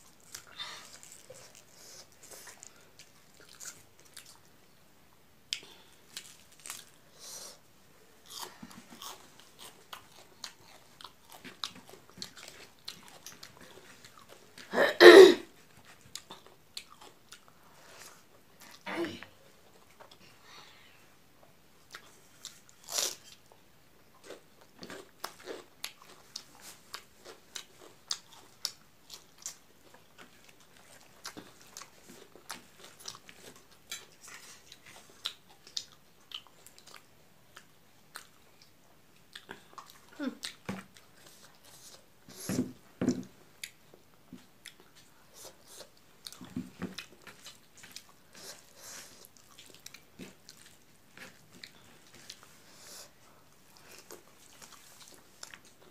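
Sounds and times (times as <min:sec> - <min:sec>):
chewing: 0:00.0 - 0:04.5, 0:08.2 - 0:14.7, 0:15.6 - 0:18.8, 0:21.8 - 0:23.5, 0:24.1 - 0:42.5, 0:43.6 - 0:55.9.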